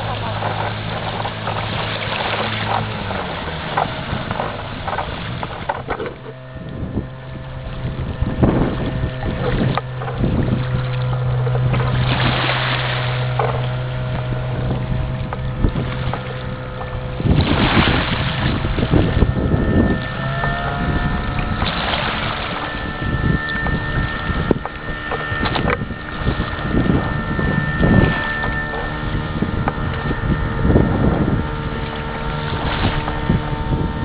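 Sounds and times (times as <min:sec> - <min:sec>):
motorboat engine hum: 0:00.0 - 0:34.0
water splashing: 0:00.0 - 0:34.0
wind buffeting microphone: 0:00.0 - 0:34.0.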